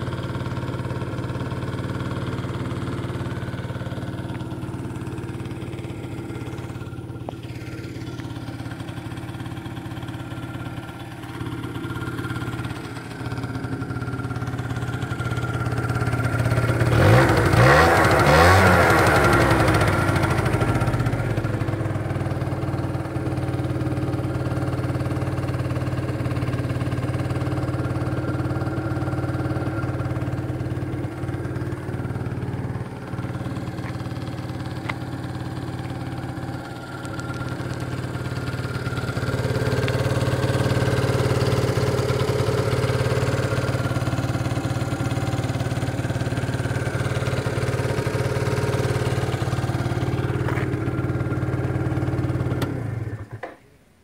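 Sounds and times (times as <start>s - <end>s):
scooter engine idling: 0.0s - 53.8s.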